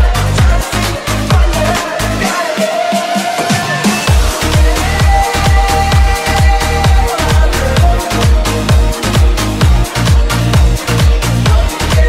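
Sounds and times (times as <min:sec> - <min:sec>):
deep kick drum: 0:00.0 - 0:01.8, 0:04.1 - 0:12.0.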